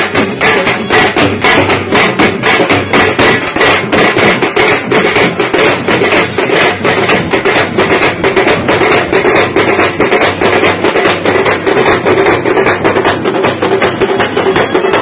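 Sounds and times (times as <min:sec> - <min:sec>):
music with fast drumbeats: 0:00.0 - 0:15.0.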